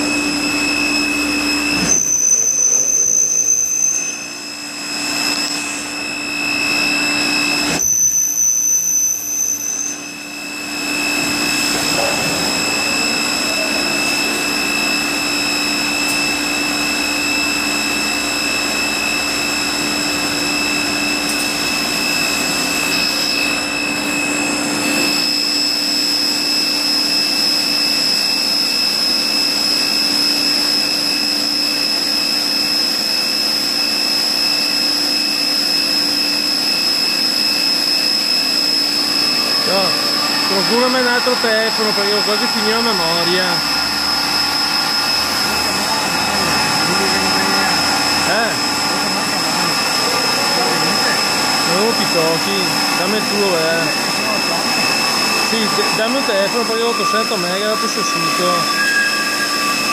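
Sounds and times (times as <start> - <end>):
high whistle: 0.0 - 59.9
machine mechanical whine: 0.0 - 59.9.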